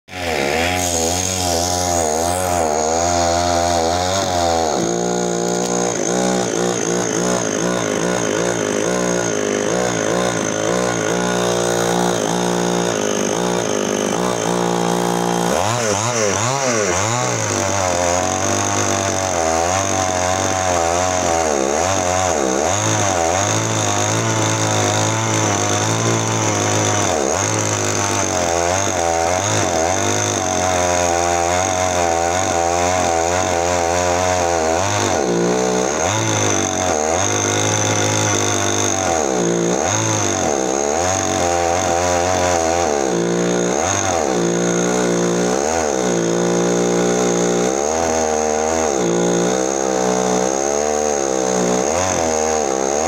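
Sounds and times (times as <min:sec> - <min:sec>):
chainsaw cutting wood: 0:00.1 - 0:53.0.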